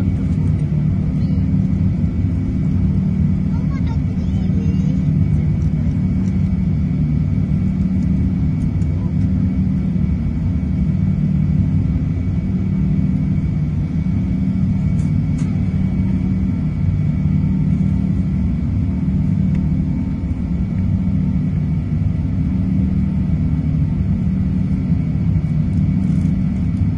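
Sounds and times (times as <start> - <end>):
jet engines droning in cabin: 0.0 - 26.9.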